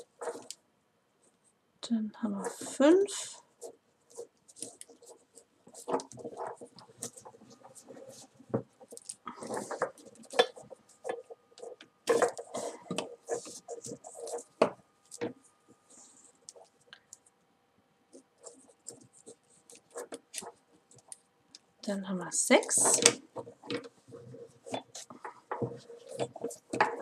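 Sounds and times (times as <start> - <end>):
cord rubbing and scraping: 0.0 - 0.6, 2.2 - 17.2, 18.1 - 21.2, 21.8 - 27.0.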